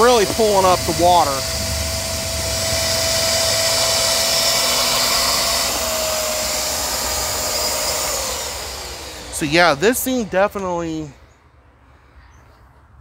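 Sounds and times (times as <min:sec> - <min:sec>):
suction motor whining: 0:00.0 - 0:11.4.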